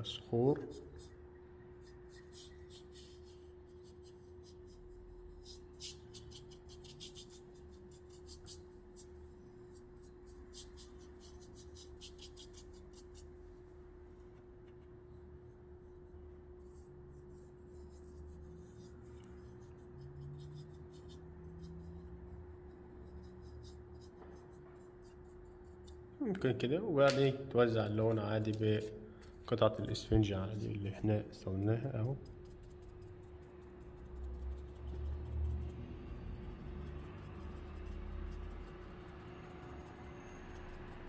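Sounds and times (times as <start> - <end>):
paint dabbing on paper: 0.6 - 13.4, 15.8 - 26.1, 28.1 - 41.0.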